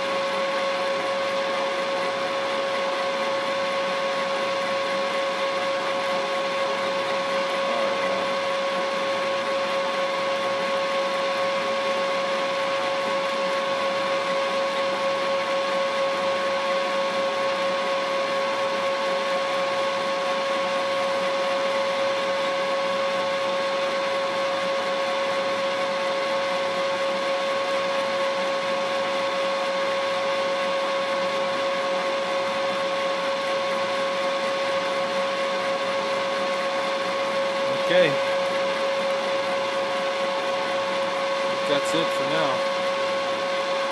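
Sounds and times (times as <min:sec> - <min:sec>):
milling machine whining: 0:00.0 - 0:43.9.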